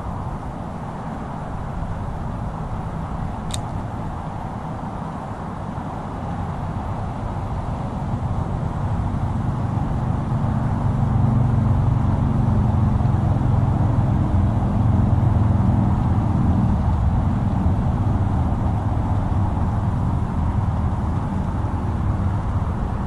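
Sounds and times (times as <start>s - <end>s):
low rumble of road traffic: 0.0s - 23.0s.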